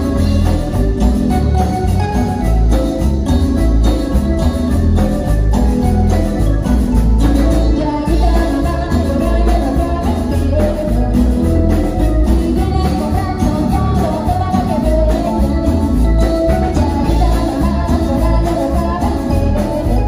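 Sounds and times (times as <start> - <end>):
keyboard melody: 0.0 - 20.0
latin dance band music: 0.0 - 20.0
shaken percussion: 0.0 - 20.0.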